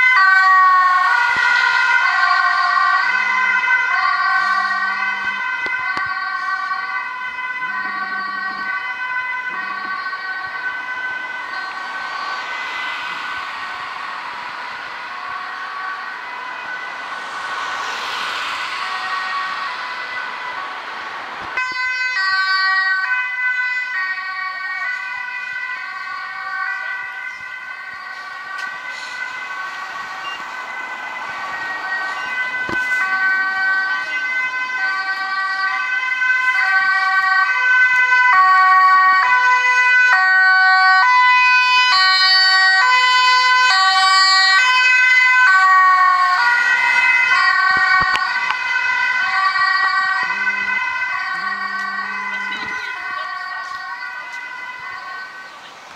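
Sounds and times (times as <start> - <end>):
ambulance two-tone siren: 0.0 - 55.9.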